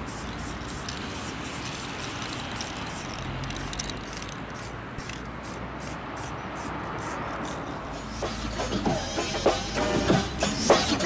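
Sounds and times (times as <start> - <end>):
high-pitched chirping pulses: 0.0 - 11.0
steady background rush: 0.0 - 11.0.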